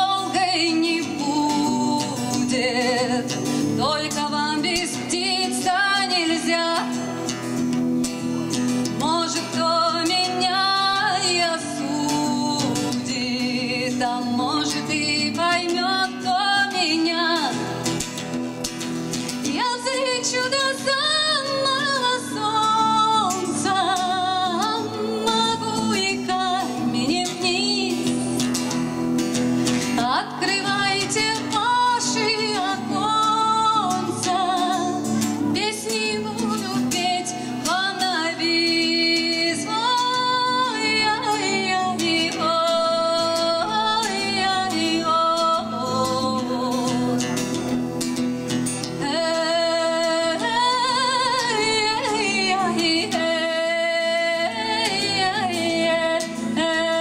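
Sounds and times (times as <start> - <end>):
acoustic guitar strumming: 0.0 - 57.0
woman singing: 0.0 - 57.0.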